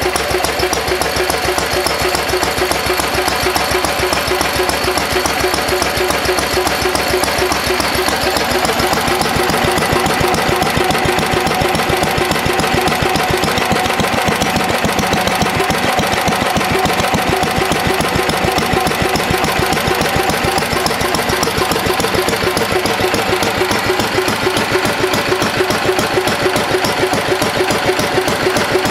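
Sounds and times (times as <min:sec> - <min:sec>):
stationary engine running steadily: 0:00.0 - 0:28.9.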